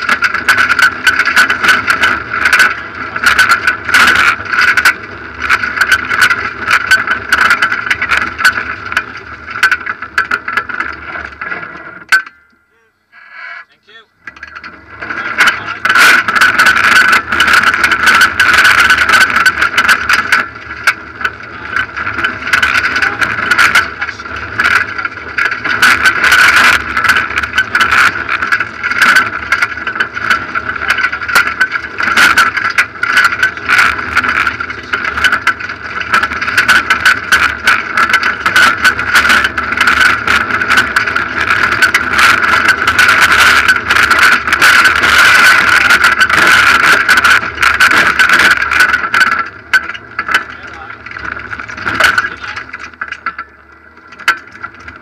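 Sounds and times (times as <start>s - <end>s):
rally car engine running hard: 0.0s - 12.4s, 14.3s - 55.0s
gravel clattering against car: 0.0s - 12.6s, 13.2s - 55.0s.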